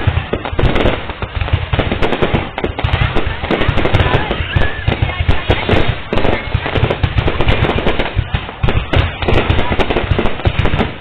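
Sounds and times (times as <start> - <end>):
fireworks bangs and crackles: 0.0 - 11.0
voices of onlookers: 0.0 - 11.0.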